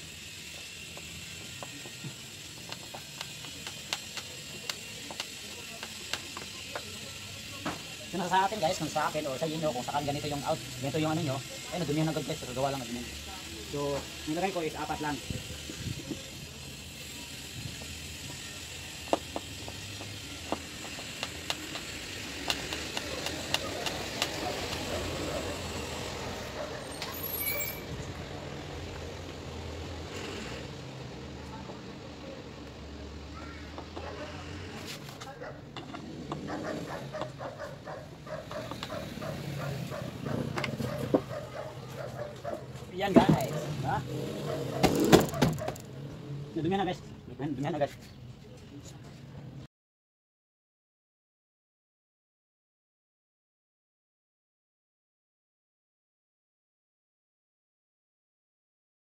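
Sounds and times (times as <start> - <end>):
low traffic rumble: 0.0 - 49.7.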